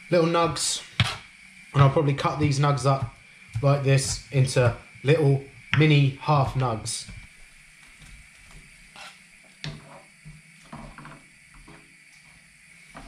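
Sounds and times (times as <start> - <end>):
wooden spoon stirring in pan: 0.2 - 4.9, 5.6 - 13.0.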